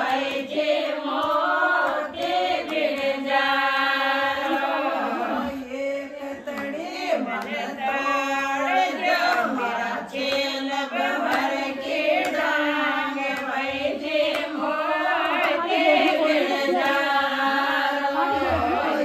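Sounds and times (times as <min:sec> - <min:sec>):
women singing folk song: 0:00.0 - 0:19.0.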